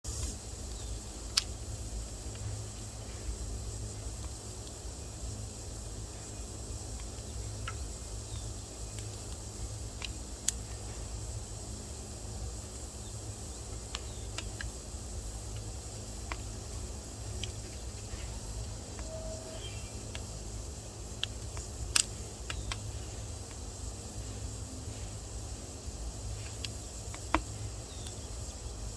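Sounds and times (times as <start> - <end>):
faint hiss: 0.0 - 28.9.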